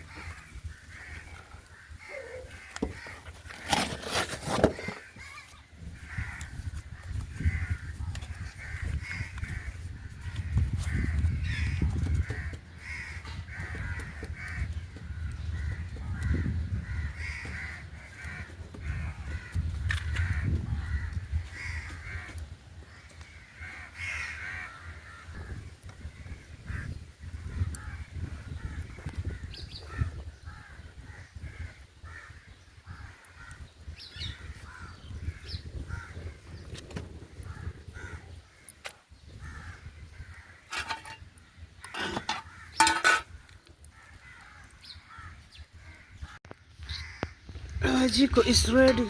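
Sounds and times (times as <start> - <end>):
birds calling: 0.0 - 49.0.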